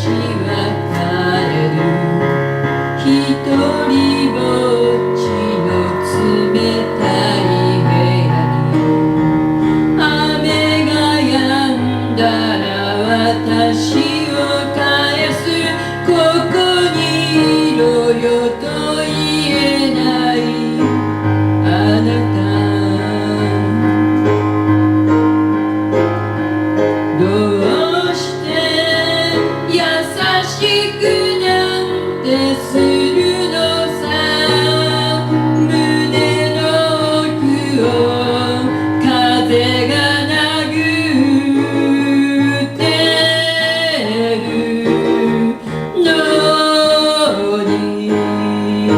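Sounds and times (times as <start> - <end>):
woman singing: 0.0 - 9.1, 10.0 - 24.2, 27.1 - 48.9
piano low held notes: 0.0 - 48.9.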